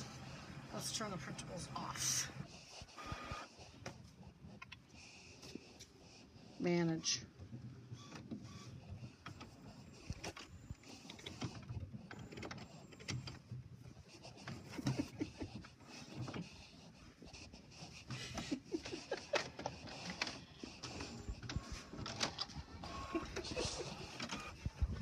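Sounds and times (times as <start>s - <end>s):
printer mechanism whirring and clicking: 0.0s - 6.0s, 6.6s - 25.0s.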